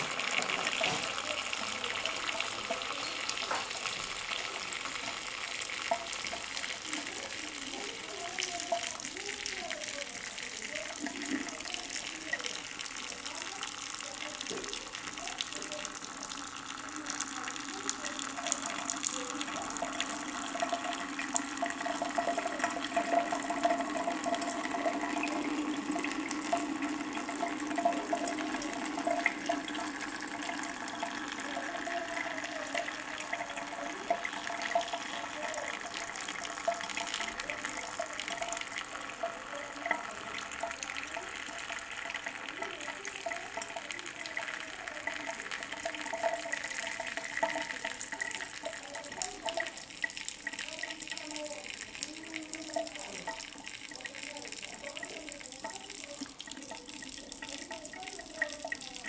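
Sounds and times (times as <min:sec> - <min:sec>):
tap running: 0:00.0 - 0:59.0
water jets splashing into sink: 0:00.0 - 0:59.0.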